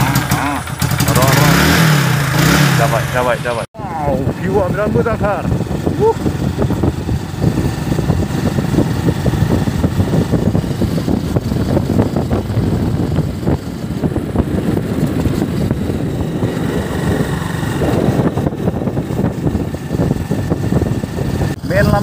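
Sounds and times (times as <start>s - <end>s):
motorbike engine: 0.0s - 22.0s
wind rushing over microphone: 3.8s - 22.0s.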